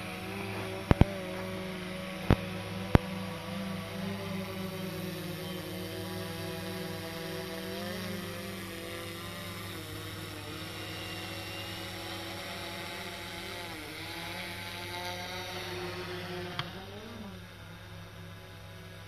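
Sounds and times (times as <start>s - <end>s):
electric propellers humming: 0.0s - 19.0s.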